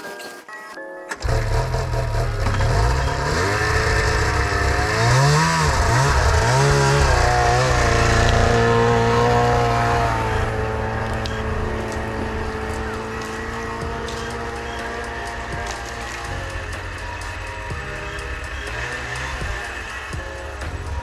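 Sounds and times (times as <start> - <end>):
snowmobile engine revving: 1.2 - 21.0.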